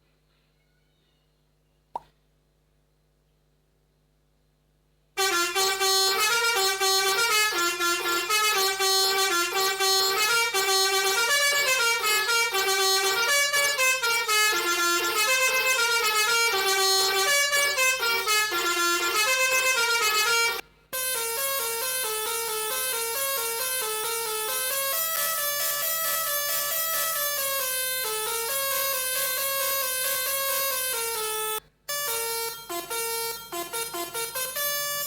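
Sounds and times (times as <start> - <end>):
musical bus horn tune: 5.2 - 35.0.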